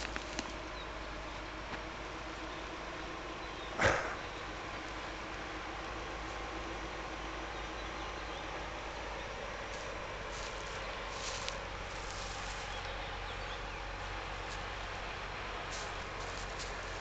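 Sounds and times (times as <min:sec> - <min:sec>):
truck diesel engine at low revs: 0:00.0 - 0:17.0.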